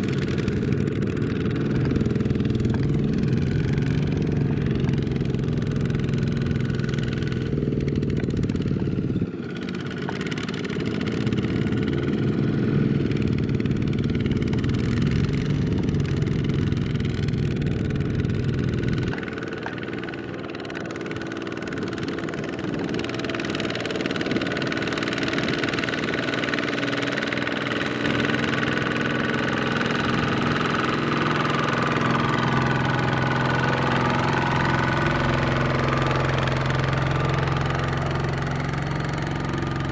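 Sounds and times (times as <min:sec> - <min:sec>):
diesel walking tractor engine: 0:00.0 - 0:39.9.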